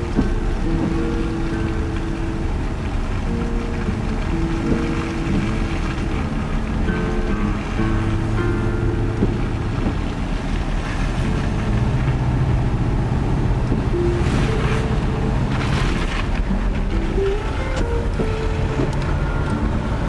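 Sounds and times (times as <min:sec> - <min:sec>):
storm wind on microphone: 0:00.0 - 0:20.0.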